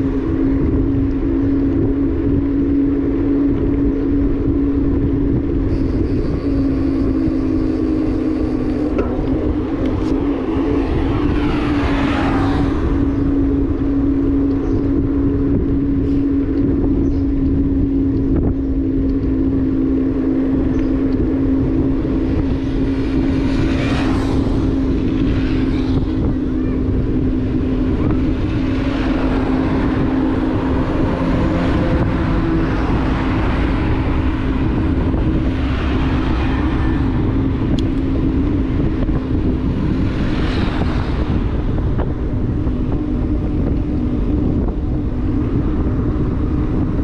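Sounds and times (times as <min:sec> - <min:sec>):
motorbike engine running: 0:00.0 - 0:47.0.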